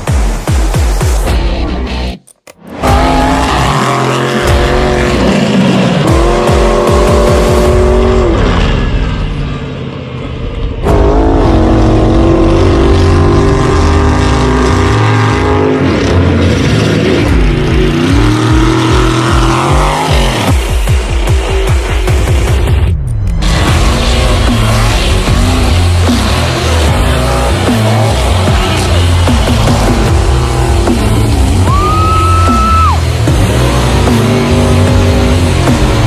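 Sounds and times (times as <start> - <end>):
truck engine revving: 0.0 - 36.0.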